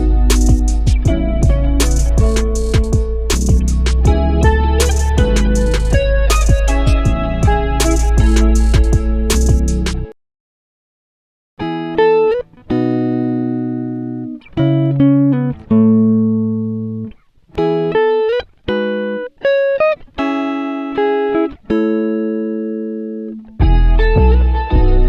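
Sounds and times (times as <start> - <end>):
plucked guitar-like melody: 0.0 - 10.1, 11.6 - 25.0.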